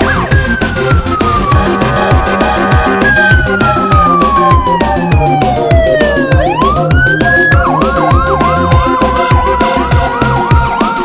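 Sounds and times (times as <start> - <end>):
electronic music with steady beat: 0.0 - 11.0
fire siren wailing and yelping: 0.0 - 11.0.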